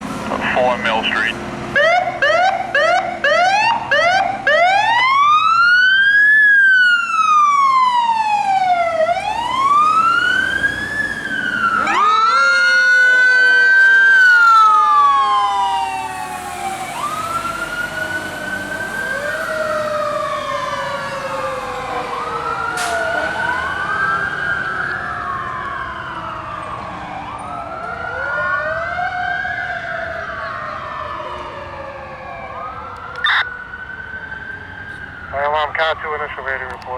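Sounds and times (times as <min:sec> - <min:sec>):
siren wailing: 0:00.3 - 0:36.9
siren yelping: 0:00.3 - 0:36.9.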